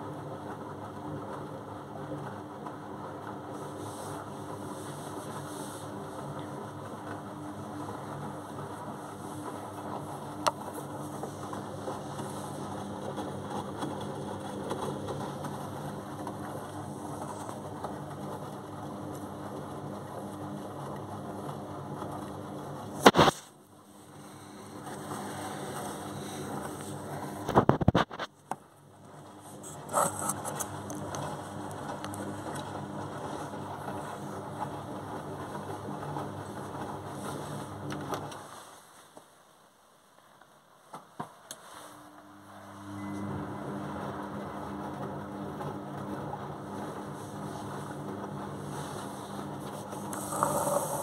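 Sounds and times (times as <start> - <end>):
washing machine motor hum: 0.0 - 38.7, 41.3 - 51.0
water and laundry sloshing: 0.6 - 27.8, 29.2 - 39.2, 44.6 - 51.0.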